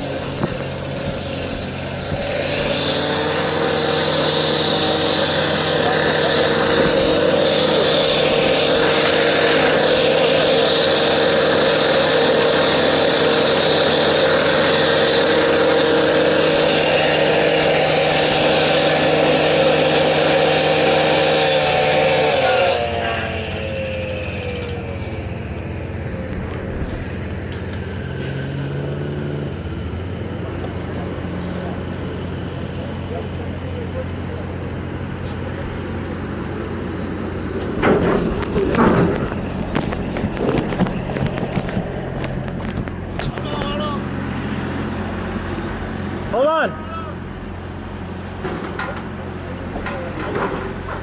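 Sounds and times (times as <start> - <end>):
heavy equipment engine revving: 0.0 - 51.0.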